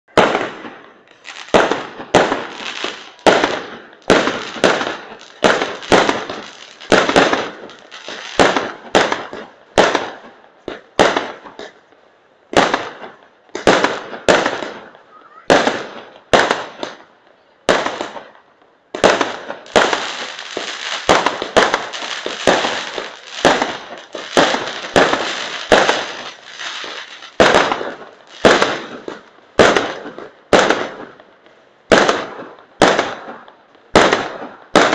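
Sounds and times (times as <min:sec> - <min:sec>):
fireworks bursting with echo: 0:00.0 - 0:34.9.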